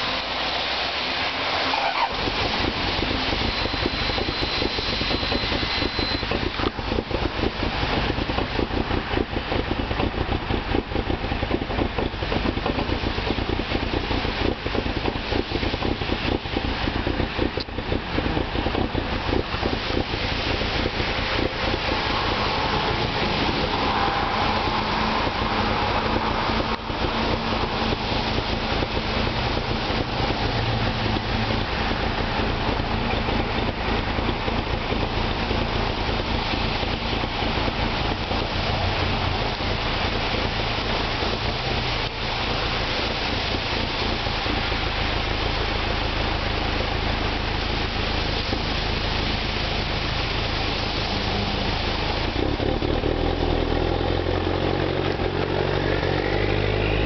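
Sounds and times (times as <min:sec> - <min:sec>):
diesel engine starting and idling: 0:00.0 - 0:57.0.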